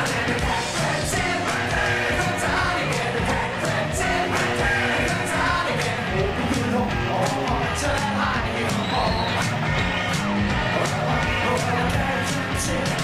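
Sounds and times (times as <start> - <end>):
glam rock song: 0.0 - 13.0
man singing: 0.0 - 13.0.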